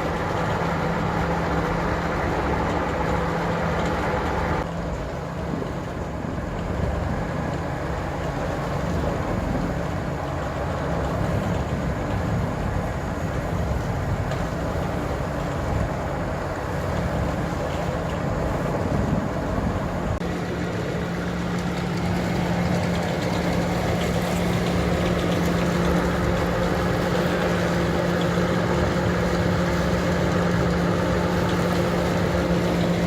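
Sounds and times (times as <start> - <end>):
slurry mixer engine running: 0.0 - 33.0.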